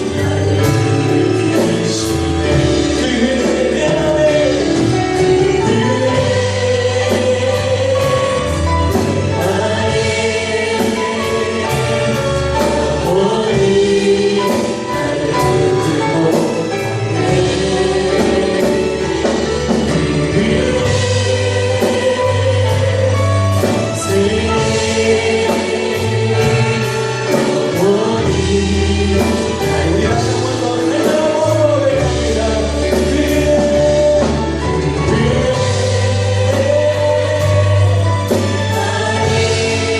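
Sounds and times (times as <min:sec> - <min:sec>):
band with bass and beat: 0:00.0 - 0:39.9
group singing gospel song: 0:00.0 - 0:39.9.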